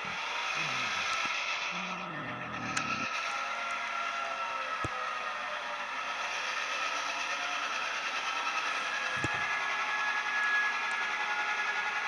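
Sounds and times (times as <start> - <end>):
diesel locomotive engine hum: 0.0 - 12.0.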